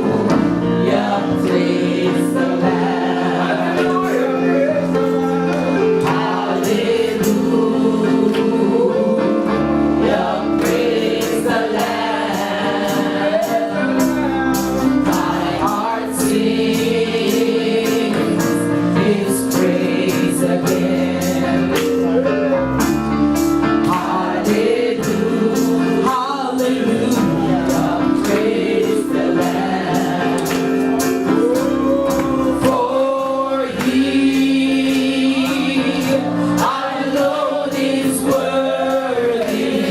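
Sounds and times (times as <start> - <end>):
steady drum beat: 0.0 - 8.8, 10.0 - 22.1, 22.7 - 39.9
keyboard chords: 0.0 - 39.9
voices singing together: 0.0 - 39.9.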